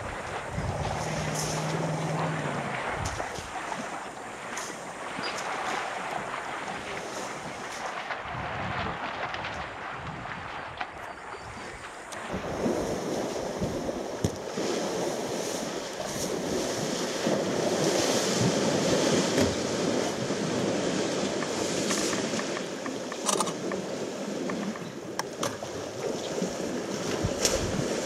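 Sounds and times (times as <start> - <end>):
elephants splashing through water: 0.0 - 28.0.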